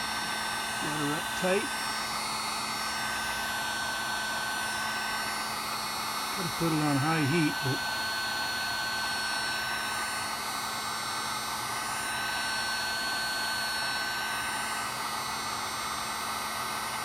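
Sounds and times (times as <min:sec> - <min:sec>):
heat gun running: 0:00.0 - 0:17.0.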